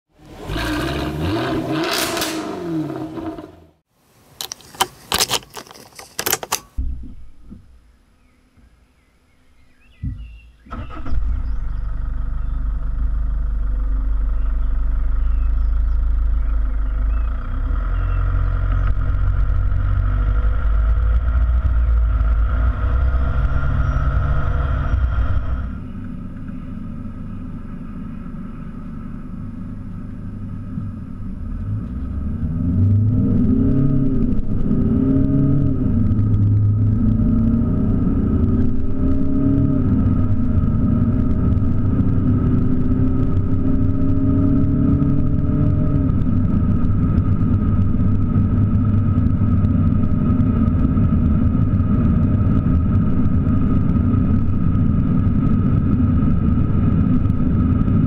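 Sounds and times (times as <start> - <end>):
diesel engine rumbling: 0.1 - 58.0.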